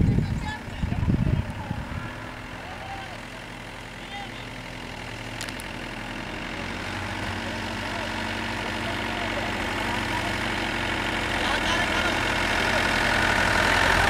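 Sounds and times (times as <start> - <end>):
vehicle engines humming: 0.0 - 14.0.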